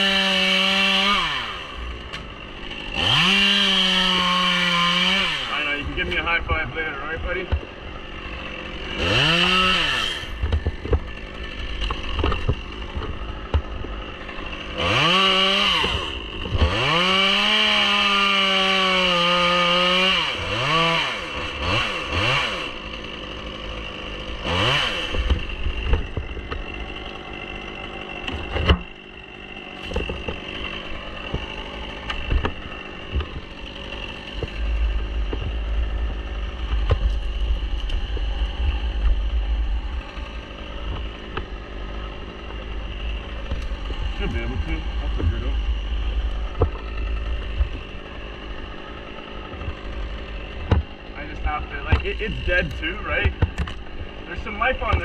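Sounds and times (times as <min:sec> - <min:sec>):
chainsaw revving and sawing wood: 0:00.0 - 0:55.0.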